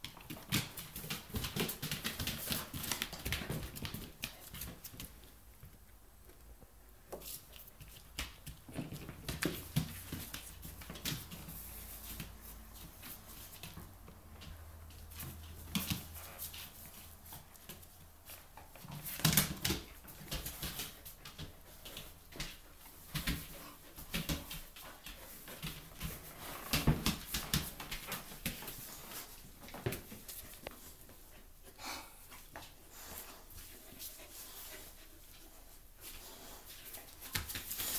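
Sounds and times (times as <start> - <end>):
paws scuffling on floor: 0.0 - 6.4, 7.0 - 37.9.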